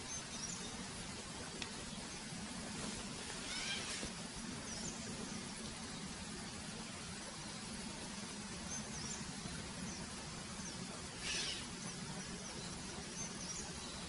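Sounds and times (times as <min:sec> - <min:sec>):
hissing rustle: 0:00.0 - 0:14.0
low hum and hiss: 0:00.0 - 0:14.0.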